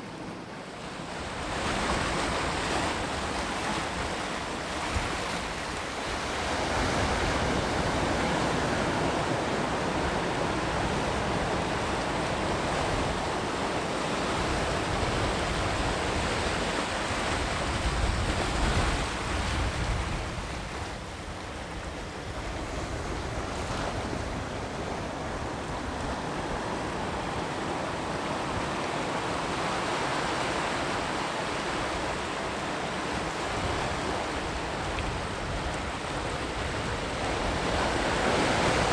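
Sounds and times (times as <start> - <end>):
sea surf breaking on shore: 0.0 - 38.9.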